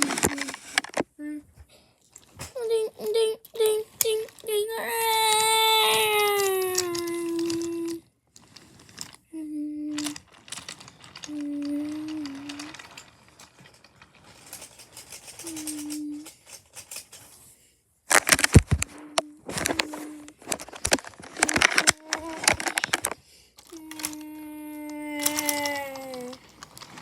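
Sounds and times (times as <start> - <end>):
wooden toy trains clattering: 0.0 - 1.1, 2.1 - 17.5, 18.1 - 27.0.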